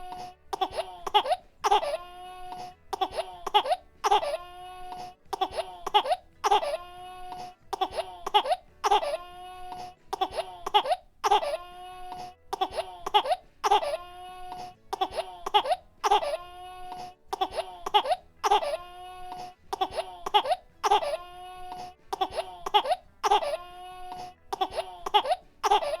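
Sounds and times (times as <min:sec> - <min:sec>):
baby crying: 0:00.0 - 0:26.0
baby coughing: 0:00.5 - 0:26.0.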